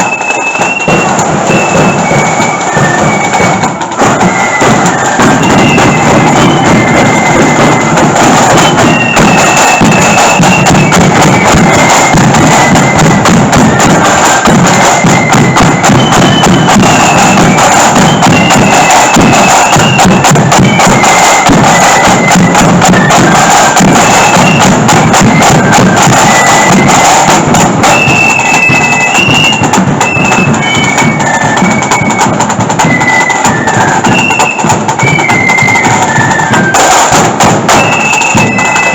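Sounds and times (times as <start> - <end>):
drums: 0.0 - 38.9
flute melody: 0.0 - 38.9.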